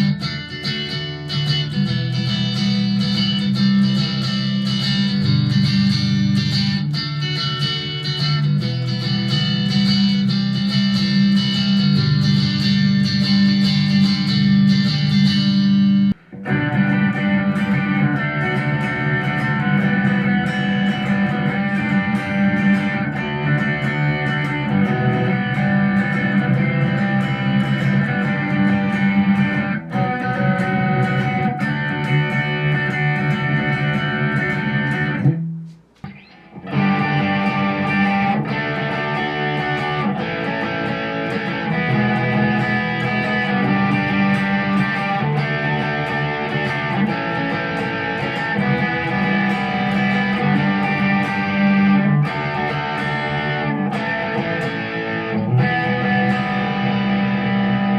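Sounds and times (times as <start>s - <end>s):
electric guitar playing: 0.0s - 57.9s.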